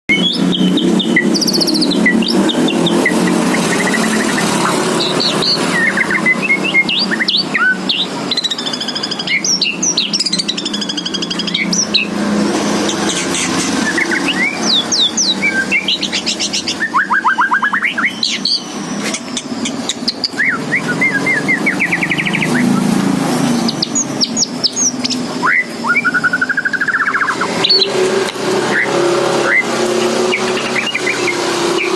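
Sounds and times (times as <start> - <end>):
bird singing varied song: 0.1 - 31.9.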